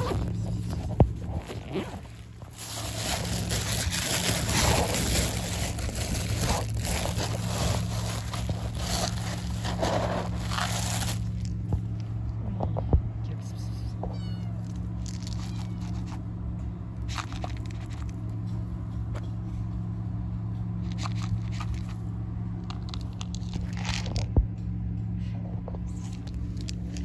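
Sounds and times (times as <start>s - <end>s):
kittens crunching dry kibble: 0.0s - 12.9s, 13.5s - 18.6s, 20.6s - 24.6s, 25.2s - 27.0s
steady low hum: 0.0s - 27.0s.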